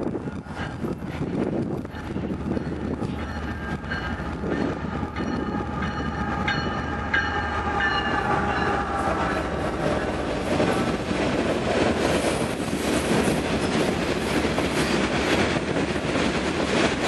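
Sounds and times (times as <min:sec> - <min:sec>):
locomotive whine: 0:00.0 - 0:15.8
diesel locomotive engines rumbling: 0:00.0 - 0:17.0
train wheels clattering on rails: 0:00.0 - 0:17.0.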